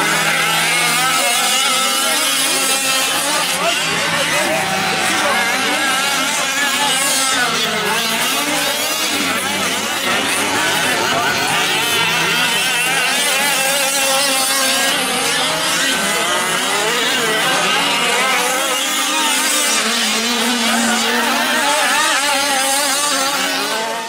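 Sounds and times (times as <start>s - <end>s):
small two-stroke engines racing: 0.0s - 24.0s.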